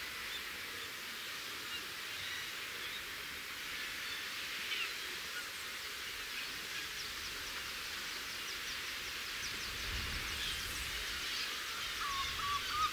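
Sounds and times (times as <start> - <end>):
outdoor hiss: 0.0 - 12.9.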